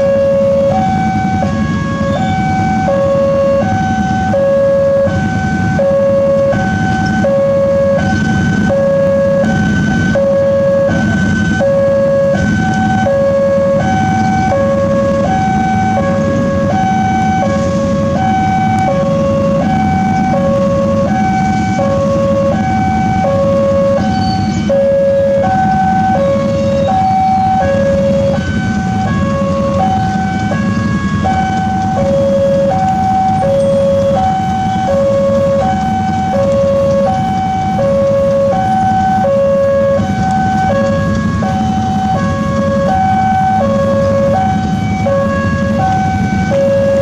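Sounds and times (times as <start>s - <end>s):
level crossing two-tone alarm: 0.0s - 47.0s
motorcycle engines idling: 0.0s - 47.0s.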